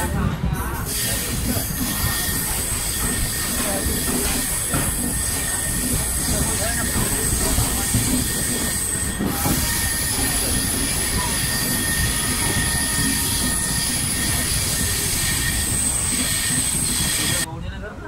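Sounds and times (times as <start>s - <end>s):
train wheels rumbling on track: 0.0s - 17.5s.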